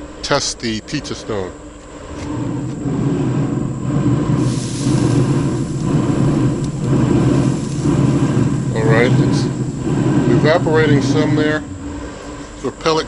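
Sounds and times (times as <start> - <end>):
grill fan and fire rumble: 0.0 - 13.0.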